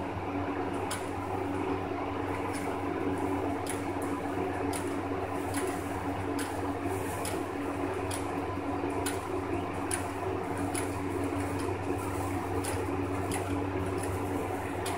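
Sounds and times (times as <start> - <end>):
guinea pigs chewing hay: 0.7 - 14.9.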